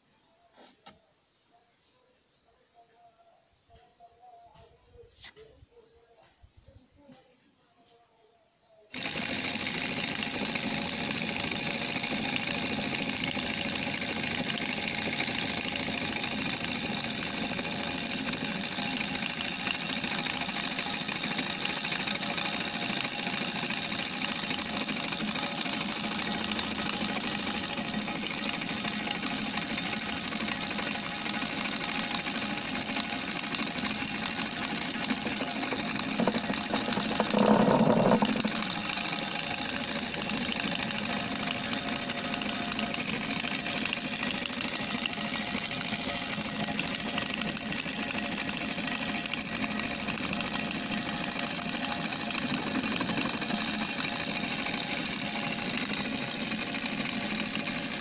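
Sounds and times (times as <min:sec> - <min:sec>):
model engine running: 0:08.9 - 0:58.0.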